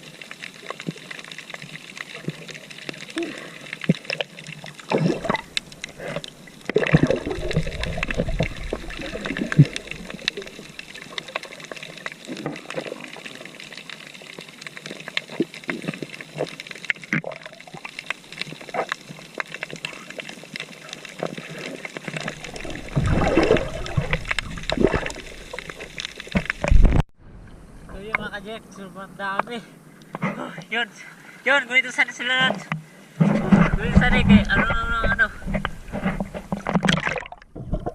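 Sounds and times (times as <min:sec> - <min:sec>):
water sloshing and trickling: 0:00.0 - 0:27.0, 0:33.2 - 0:37.9.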